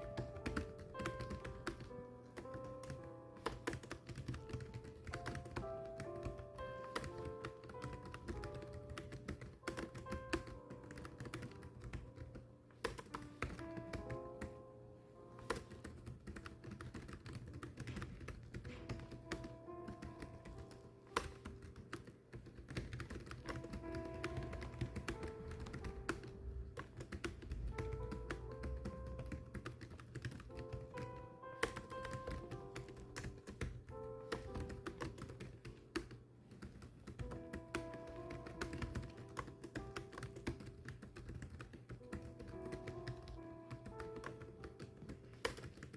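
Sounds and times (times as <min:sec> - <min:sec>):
instrumental background music: 0:00.0 - 0:36.2, 0:37.1 - 0:45.9
keyboard typing: 0:00.0 - 0:45.9.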